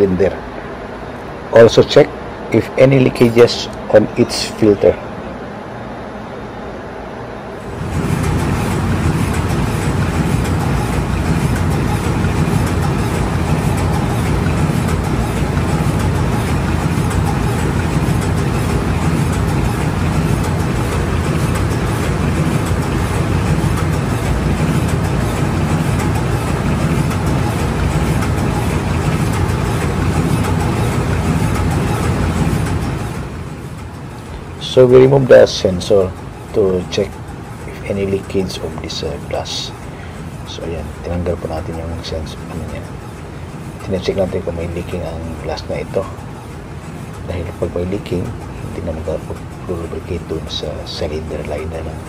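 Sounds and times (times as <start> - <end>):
ship diesel engine running: 0.0 - 52.0.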